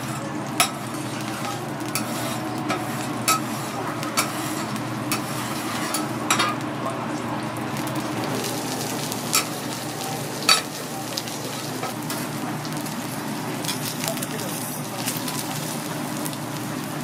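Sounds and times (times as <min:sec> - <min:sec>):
steak sizzling on a griddle: 0:00.0 - 0:17.0.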